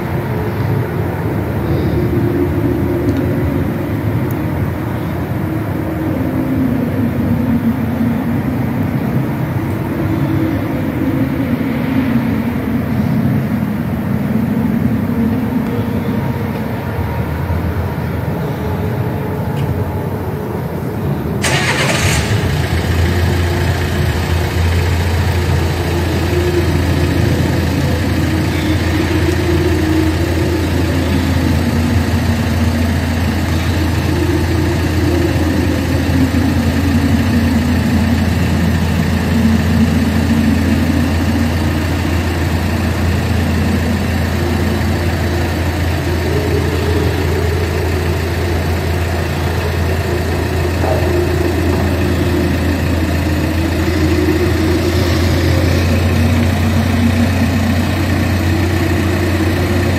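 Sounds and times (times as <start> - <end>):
vehicle engines humming: 0.0 - 59.9.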